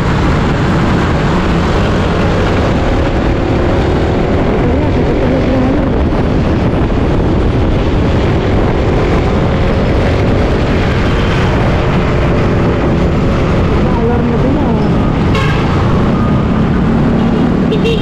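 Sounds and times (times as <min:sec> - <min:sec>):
wind rushing over microphone: 0:00.0 - 0:17.8
motorcycle engine hum: 0:00.0 - 0:18.0.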